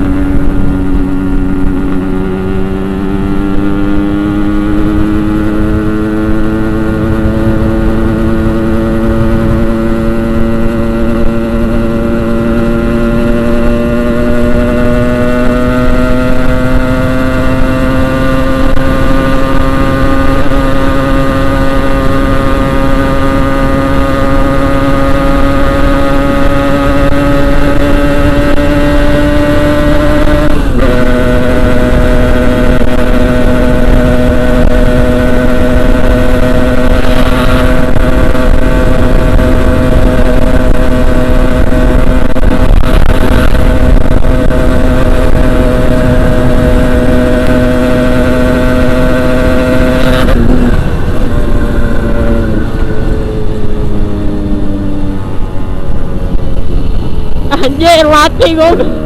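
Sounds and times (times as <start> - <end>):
two-stroke motorcycle engine: 0.0 - 59.0.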